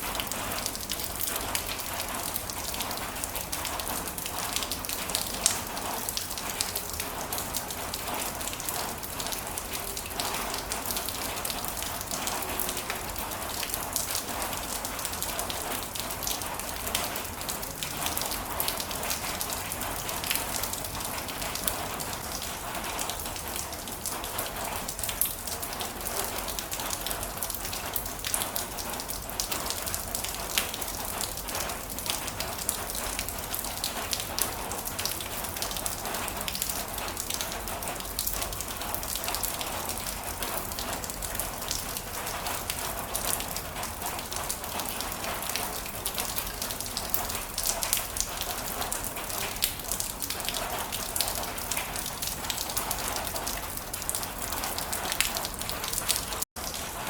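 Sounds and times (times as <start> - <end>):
raindrops striking a surface: 0.0 - 57.0.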